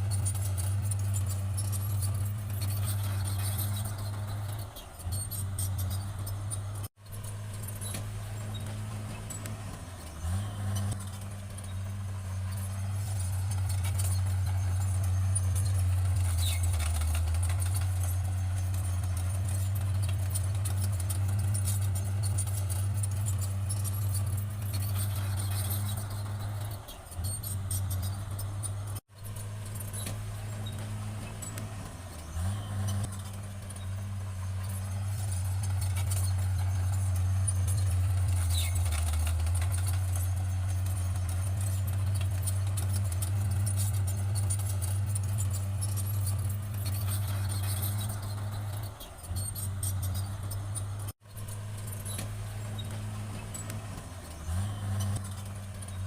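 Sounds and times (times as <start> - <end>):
bulldozer diesel engine: 0.0 - 56.0
tracks clinking and clanking: 0.0 - 56.0.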